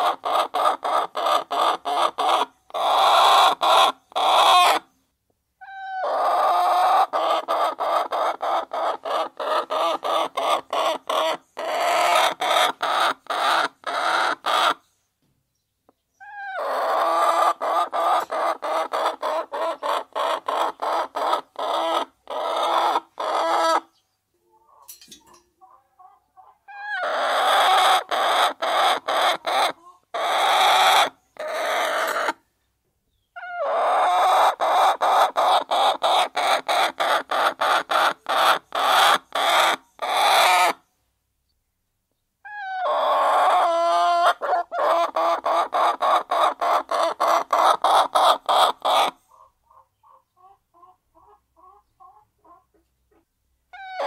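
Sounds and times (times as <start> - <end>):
hens clucking: 0.0 - 4.8, 5.6 - 14.8, 16.2 - 32.4, 33.4 - 40.8, 42.5 - 54.0.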